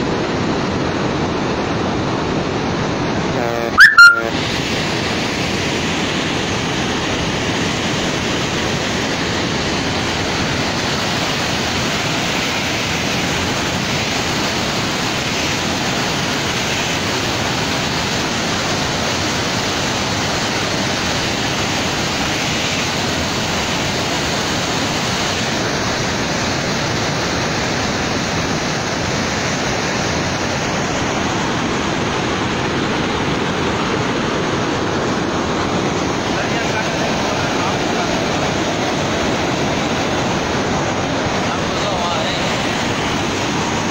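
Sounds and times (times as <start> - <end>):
floodwater roaring through spillway: 0.0 - 43.9.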